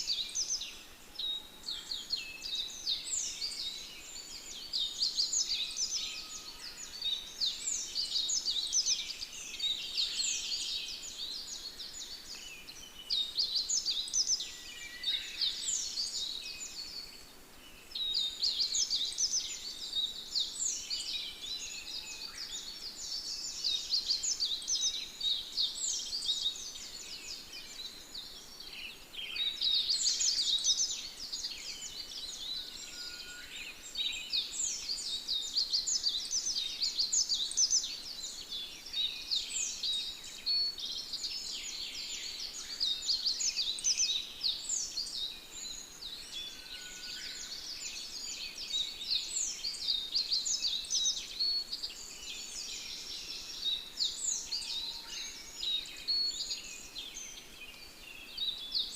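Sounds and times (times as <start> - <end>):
songbirds twittering: 0.0 - 58.9.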